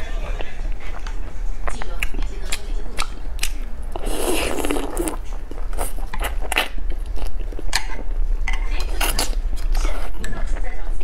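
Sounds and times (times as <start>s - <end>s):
wet crackly chewing: 0.2s - 10.8s.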